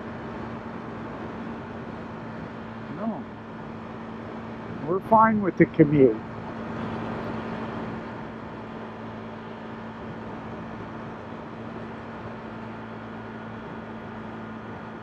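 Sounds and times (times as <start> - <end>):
low engine hum: 0.0 - 15.0
road noise hiss: 0.0 - 15.0.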